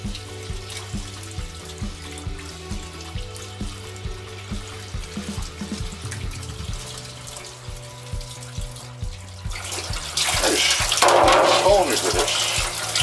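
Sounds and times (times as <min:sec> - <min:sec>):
background music with low beat: 0:00.0 - 0:13.0
tap water running into sink: 0:00.0 - 0:13.0
water splashing over fish: 0:00.0 - 0:13.0.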